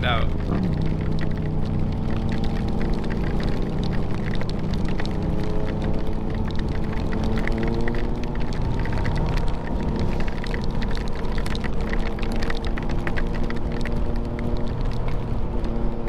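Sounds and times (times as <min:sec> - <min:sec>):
raindrops ticking on microphone: 0:00.0 - 0:16.0
wind rumble: 0:00.0 - 0:16.0.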